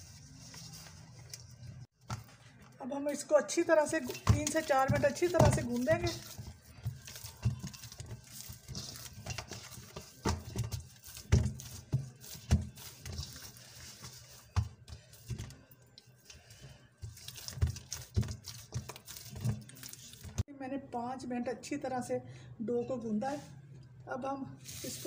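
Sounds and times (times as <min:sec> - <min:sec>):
dough kneaded in metal bowl: 0:00.0 - 0:20.5.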